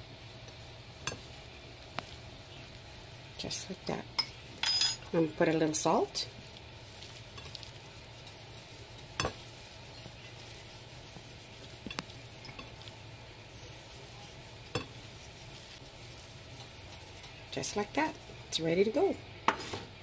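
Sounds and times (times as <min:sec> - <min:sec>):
soft rustling of raw meat: 0:00.0 - 0:03.8, 0:04.5 - 0:19.3.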